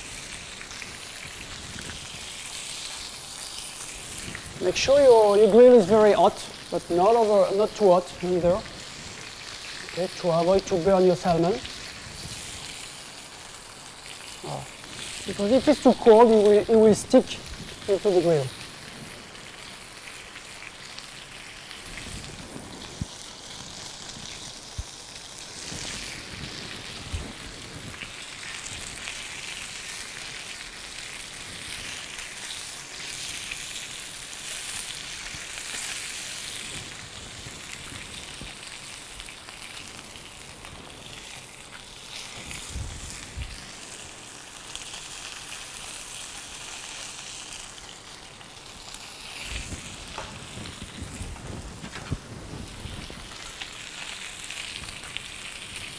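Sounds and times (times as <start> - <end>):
fish sizzling on grill pan: 0.0 - 55.9.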